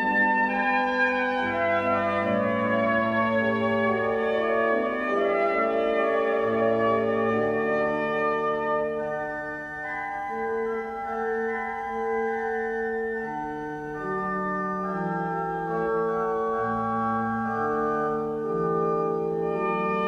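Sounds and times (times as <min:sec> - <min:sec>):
pipe organ playing: 0:00.0 - 0:20.0.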